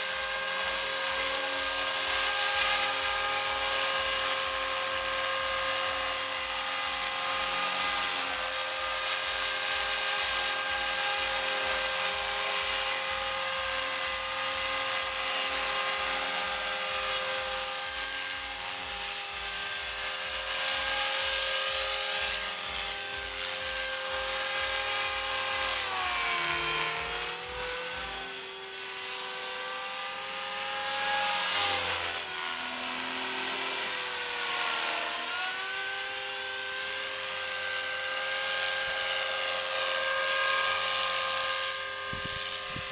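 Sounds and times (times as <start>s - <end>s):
rc helicopter motor whine: 0.0s - 42.9s.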